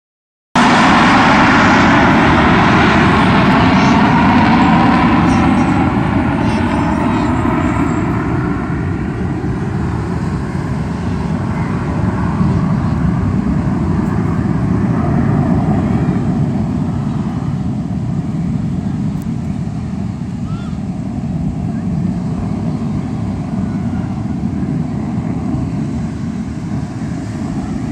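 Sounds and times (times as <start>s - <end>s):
aircraft roaring overhead: 0.6s - 27.9s.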